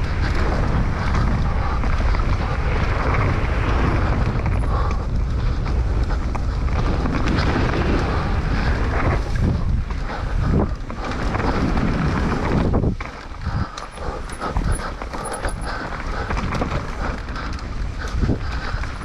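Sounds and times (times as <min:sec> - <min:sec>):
mountain bike rattling on trail: 0:00.0 - 0:19.0
wind buffeting microphone: 0:00.0 - 0:19.0.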